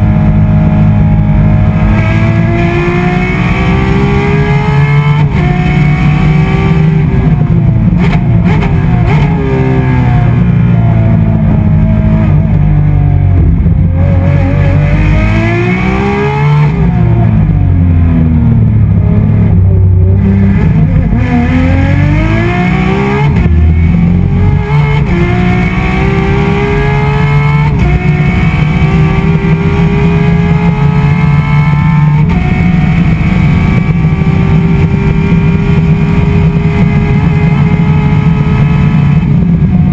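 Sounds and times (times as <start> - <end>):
racing engine accelerating and downshifting: 0.0 - 39.9.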